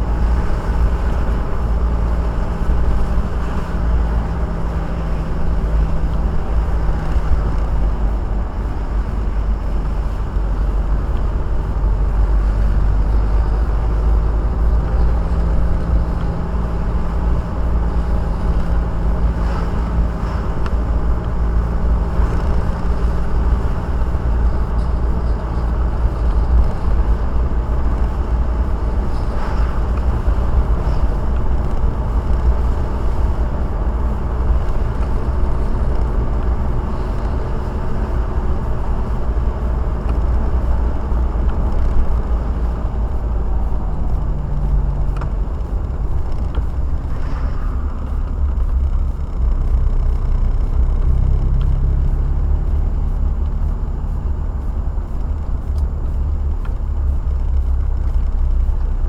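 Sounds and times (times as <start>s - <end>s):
faint engine hum: 0.0s - 59.0s
road and engine rumble: 0.0s - 59.0s.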